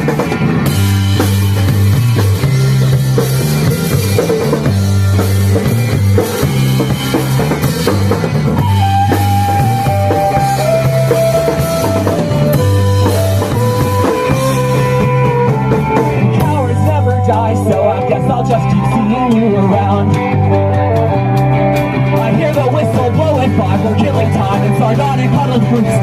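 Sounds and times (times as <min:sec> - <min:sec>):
drum kit and bass: 0:00.0 - 0:26.0
sustained lead melody: 0:00.0 - 0:26.0.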